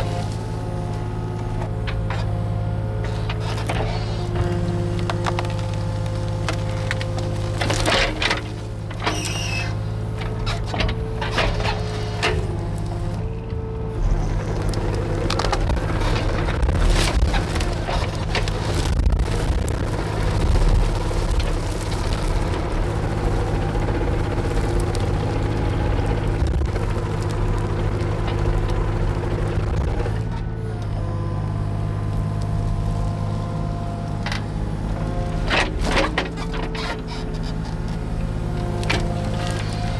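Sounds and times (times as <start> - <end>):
diesel engine running: 0.0 - 39.9
wood snapping and crunching: 0.0 - 39.9.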